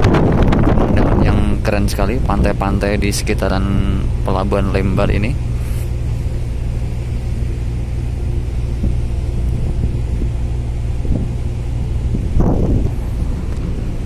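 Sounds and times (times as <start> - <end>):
ship engines low rumble: 0.0 - 14.0.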